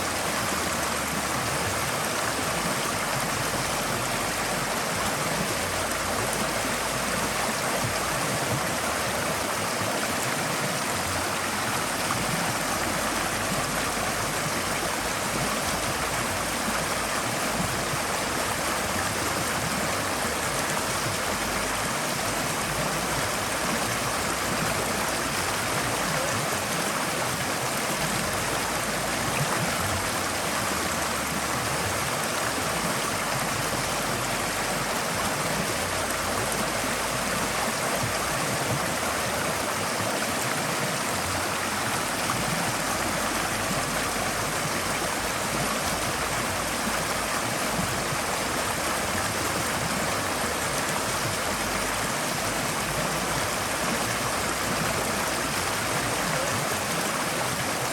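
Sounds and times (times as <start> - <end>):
stream flowing over stones: 0.0 - 57.9.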